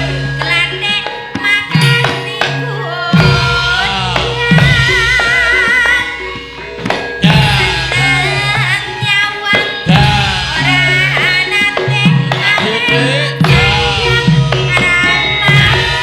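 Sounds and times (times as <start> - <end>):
hand drum strokes: 0.0 - 16.0
melody sliding in pitch: 0.0 - 16.0
metallophone tones: 0.0 - 16.0.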